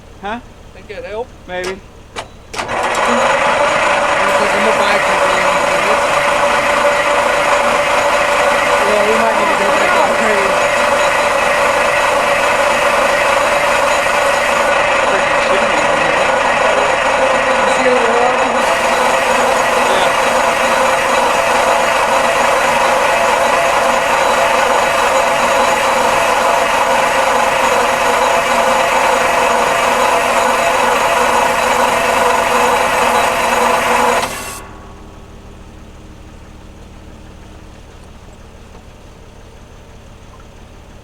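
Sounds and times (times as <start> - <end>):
diesel engine cranking whine: 0.0 - 41.0
diesel engine running: 0.0 - 41.0.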